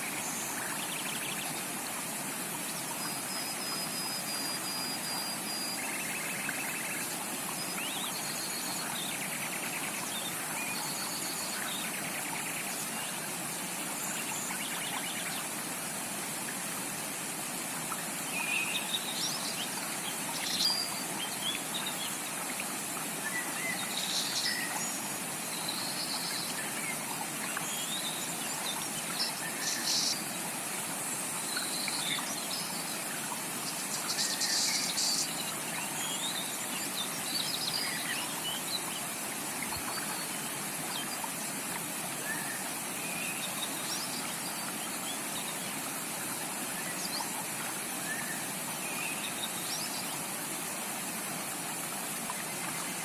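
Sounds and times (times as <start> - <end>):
creek water running: 0.0 - 53.0.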